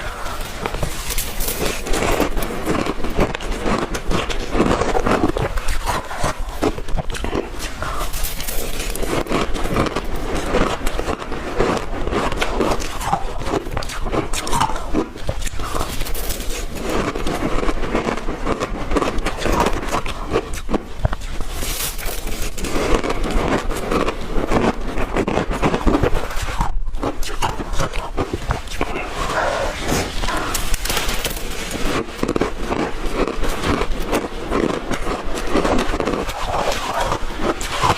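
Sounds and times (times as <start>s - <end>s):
ice being chewed: 0.0s - 37.9s.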